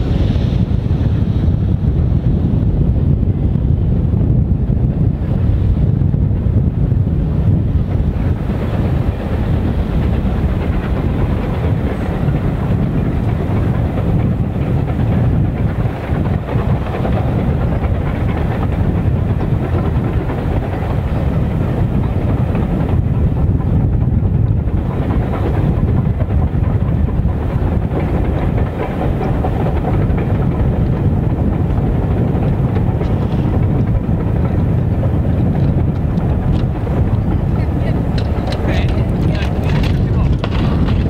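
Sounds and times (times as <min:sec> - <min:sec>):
steam locomotive low rumble: 0:00.0 - 0:41.0.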